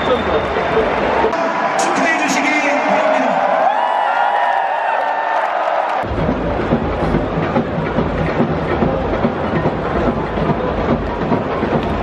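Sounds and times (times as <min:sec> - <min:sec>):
stadium crowd din: 0:00.0 - 0:12.0.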